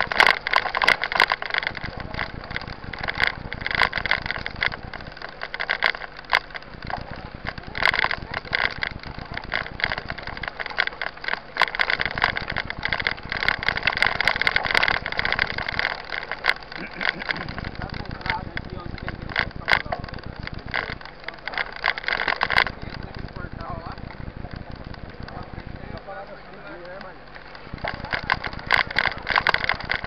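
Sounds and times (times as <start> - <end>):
bike knocks and rattles: 0.0 - 30.0
bike tyres crunching on gravel: 0.0 - 30.0.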